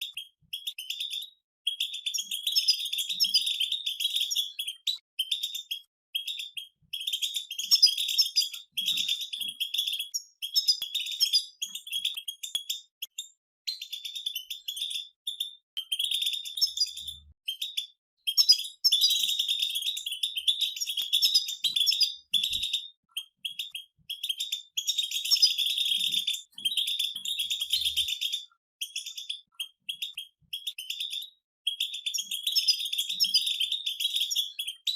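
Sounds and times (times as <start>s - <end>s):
goldfinches twittering: 1.8s - 12.8s, 13.8s - 31.2s.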